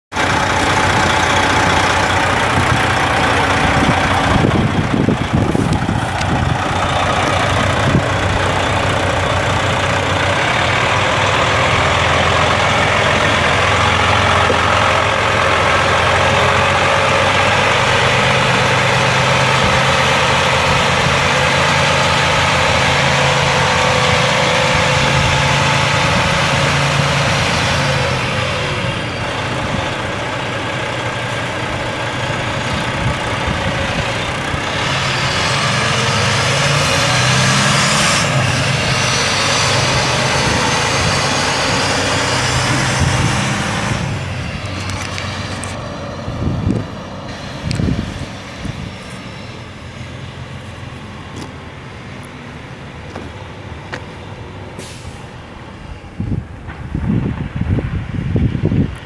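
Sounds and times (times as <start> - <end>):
diesel truck engine idling: 0.1 - 57.2.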